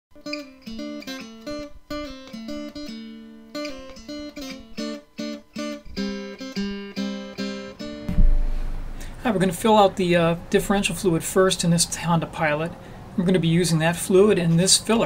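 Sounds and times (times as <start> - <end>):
acoustic guitar music: 0.2 - 13.4.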